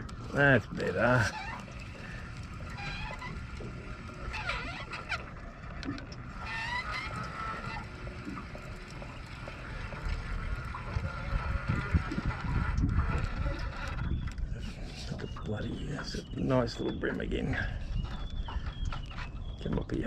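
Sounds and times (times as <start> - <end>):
birds chirping: 0.0 - 20.0
low rumbling noise: 0.0 - 20.0.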